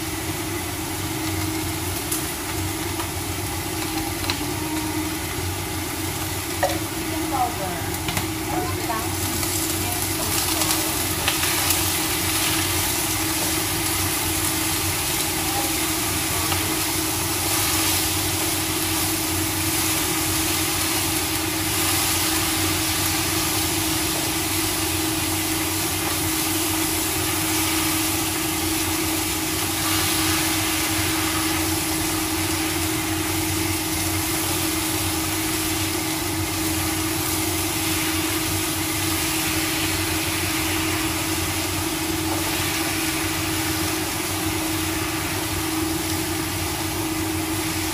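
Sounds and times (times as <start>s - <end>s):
gas burner hum and hiss: 0.0s - 47.9s
vegetables stir-frying in a wok: 0.0s - 47.9s.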